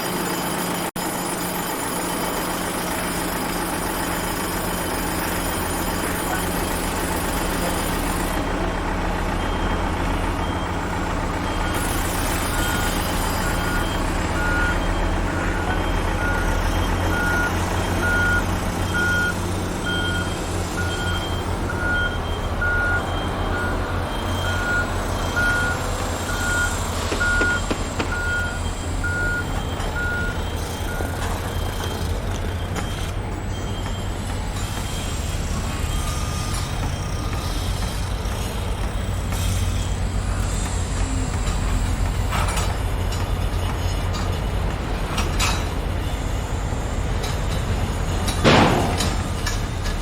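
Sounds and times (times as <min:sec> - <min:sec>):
reversing alarm beeping: 0:00.0 - 0:43.1
diesel engine rumbling: 0:00.0 - 0:50.0.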